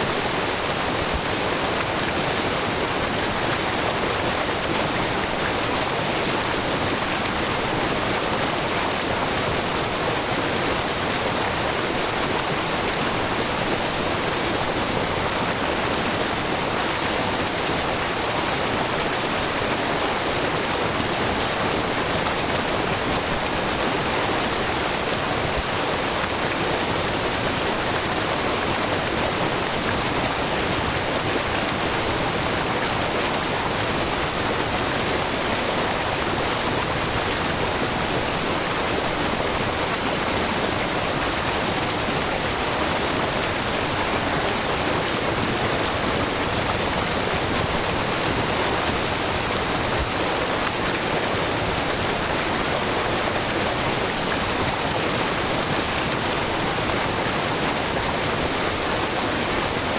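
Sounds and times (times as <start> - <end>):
waterfall rushing into pool: 0.0 - 59.9.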